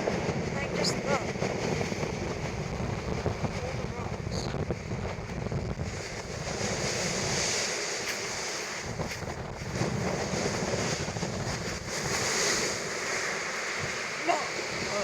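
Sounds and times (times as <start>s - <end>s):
sea waves washing up beach: 0.0s - 15.0s
wind rumbling on microphone: 0.0s - 15.0s.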